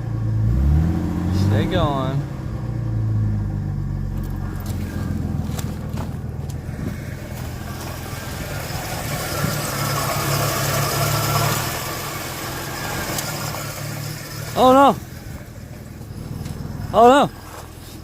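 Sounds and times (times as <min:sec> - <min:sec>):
car engine idling unevenly: 0:00.0 - 0:18.0.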